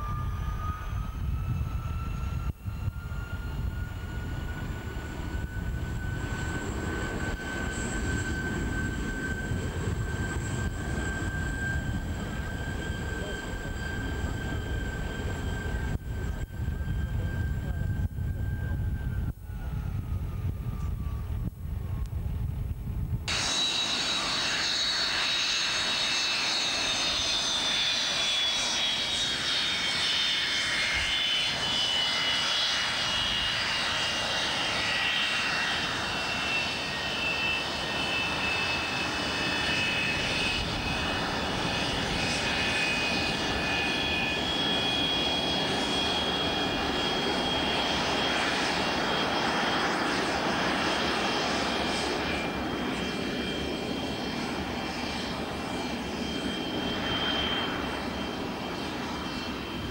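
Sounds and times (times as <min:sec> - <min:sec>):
jet engine compressor whine: 0:00.0 - 0:59.9.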